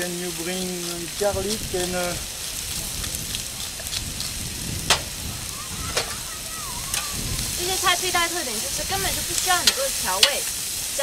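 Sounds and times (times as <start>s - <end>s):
vegetables sizzling on a griddle: 0.0s - 11.0s.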